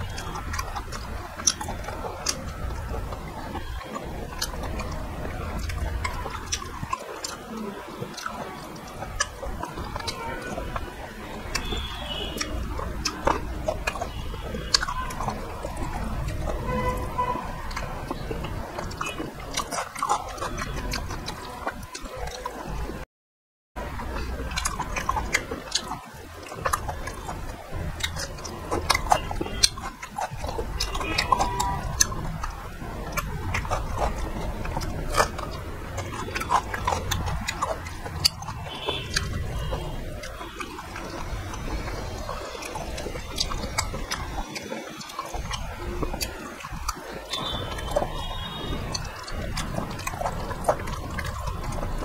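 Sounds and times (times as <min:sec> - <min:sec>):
fingers squishing food on steel plate: 0:00.0 - 0:23.0, 0:23.8 - 0:52.0
wet chewing and lip smacks: 0:00.0 - 0:23.0, 0:23.8 - 0:52.0.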